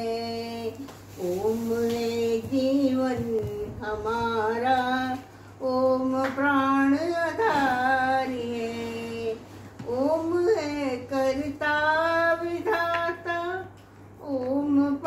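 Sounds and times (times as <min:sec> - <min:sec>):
elderly woman singing solo: 0:00.0 - 0:15.0.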